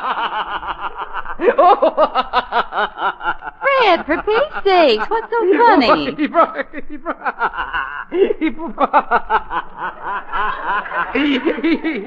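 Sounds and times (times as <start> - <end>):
man chuckling: 0.0 - 12.0.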